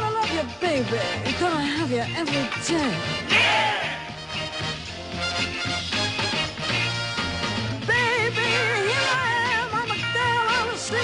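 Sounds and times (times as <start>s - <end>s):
upbeat band music: 0.0s - 11.0s.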